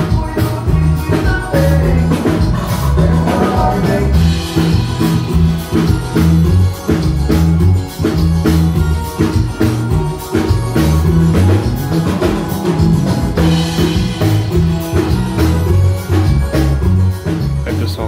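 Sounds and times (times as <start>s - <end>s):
drum kit steady beat: 0.0s - 18.0s
heavy bass: 0.0s - 18.0s
live band through pa system: 0.0s - 18.0s.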